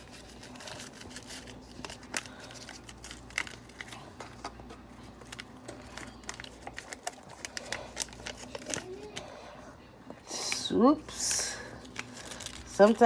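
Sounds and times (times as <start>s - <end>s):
paper packet crinkling and tearing: 0.0s - 9.2s, 11.6s - 13.0s.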